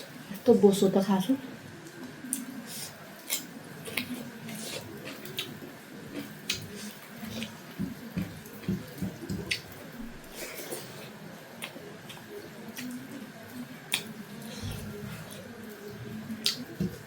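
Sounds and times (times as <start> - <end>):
soft chewing thuds: 3.2 - 17.0.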